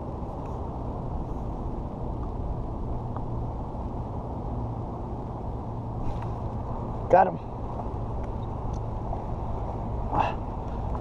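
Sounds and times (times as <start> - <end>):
water around kayak: 0.0 - 11.0.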